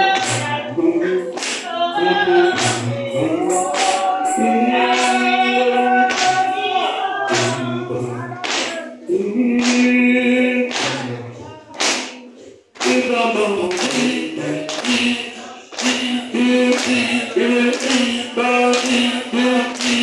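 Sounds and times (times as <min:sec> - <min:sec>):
congregation singing: 0:00.0 - 0:20.0
sharp percussive beats: 0:00.0 - 0:20.0.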